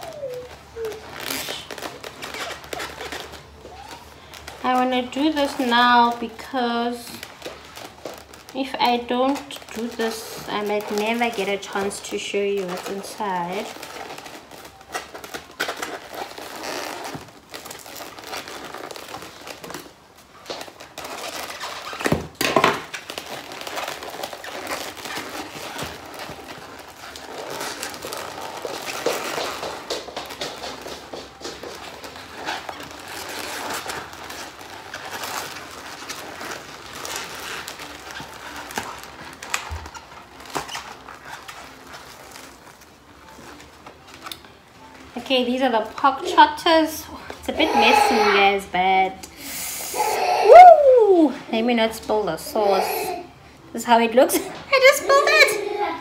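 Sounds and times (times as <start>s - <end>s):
food packaging crinkling: 0.0s - 51.4s.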